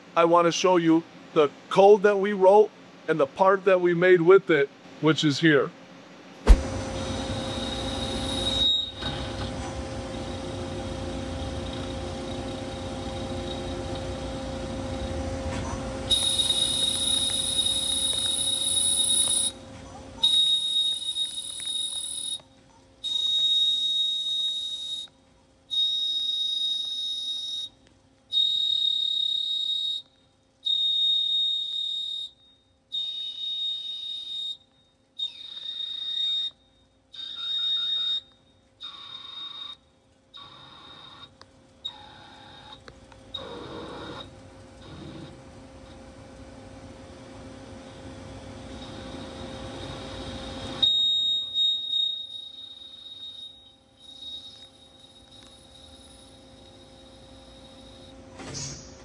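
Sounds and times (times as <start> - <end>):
faint machine hum: 0.0 - 59.0.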